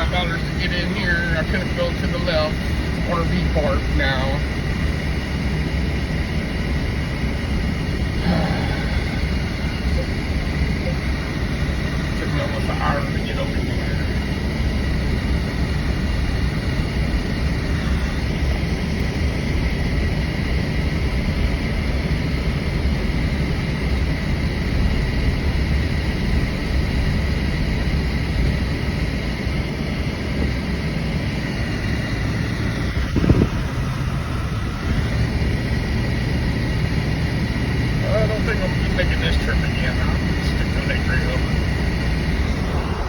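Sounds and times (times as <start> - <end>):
engine and road noise rumble: 0.0 - 43.0.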